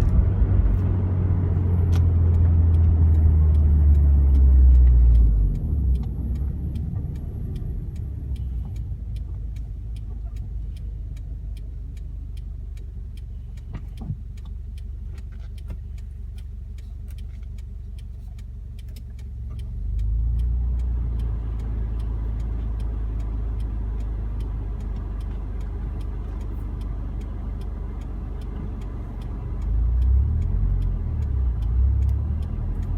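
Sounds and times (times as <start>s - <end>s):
deep car engine drone: 0.0s - 32.9s.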